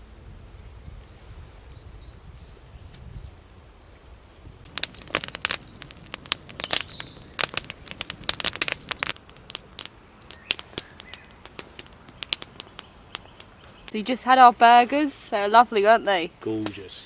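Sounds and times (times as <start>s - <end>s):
campfire crackling: 0.0s - 17.0s
birds chirping faintly: 0.4s - 3.4s, 4.7s - 17.0s.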